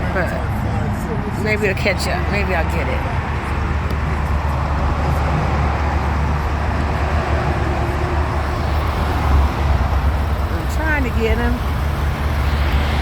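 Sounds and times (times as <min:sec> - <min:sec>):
vehicle road rumble: 0:00.0 - 0:13.0.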